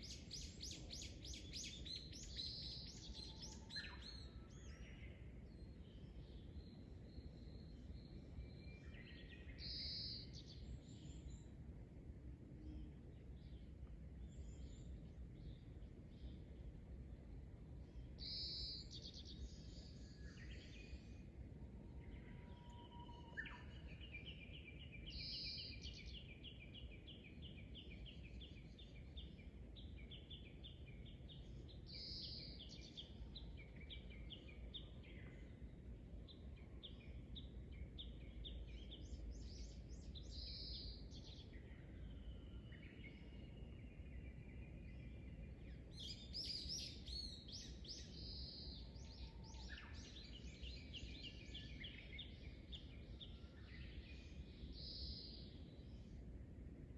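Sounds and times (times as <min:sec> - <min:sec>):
birds singing: 0:00.0 - 0:11.5, 0:18.2 - 0:21.2, 0:22.0 - 0:56.2.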